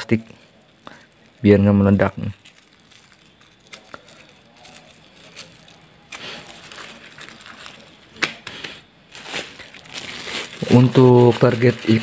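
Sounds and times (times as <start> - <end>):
plastic bags rustling: 0.0 - 12.0.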